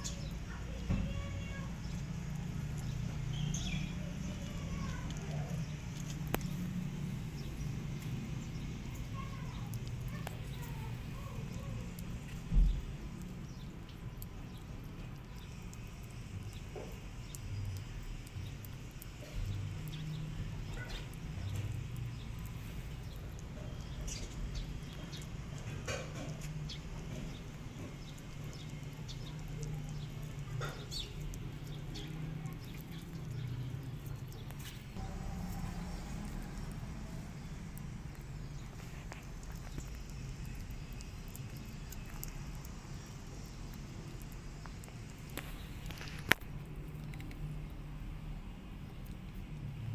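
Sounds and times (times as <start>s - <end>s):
kittens chewing and licking: 0.0s - 49.9s
steady low rumble: 0.0s - 49.9s.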